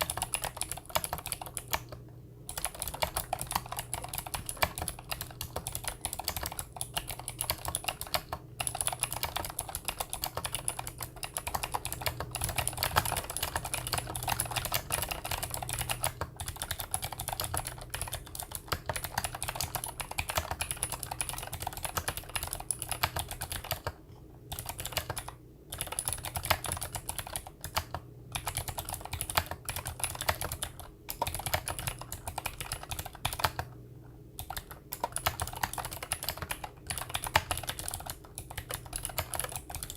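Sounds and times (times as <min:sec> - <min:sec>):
fast clicky keyboard typing: 0:00.0 - 0:33.8, 0:34.4 - 0:39.9.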